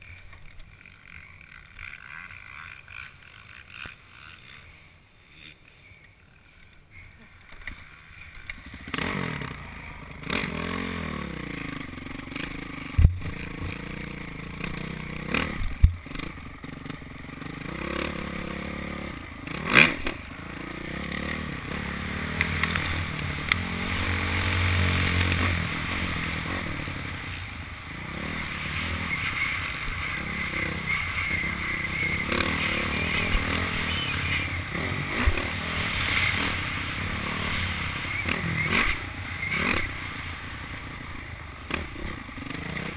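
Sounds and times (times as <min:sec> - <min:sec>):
motorcycle engine revving: 0:00.0 - 0:06.7, 0:07.4 - 0:42.9.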